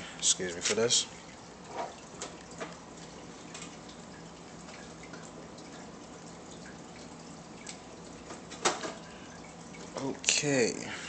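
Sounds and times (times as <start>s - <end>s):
aquarium water trickling: 0.0s - 11.0s.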